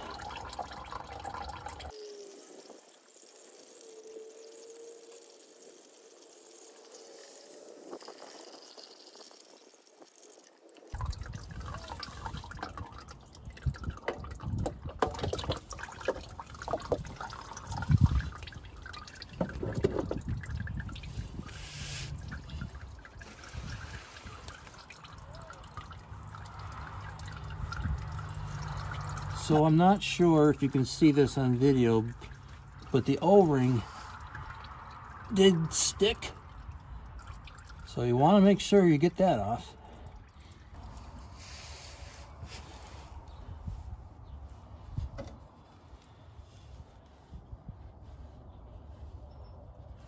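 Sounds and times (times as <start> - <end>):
oil dripping and trickling: 0.0 - 50.0.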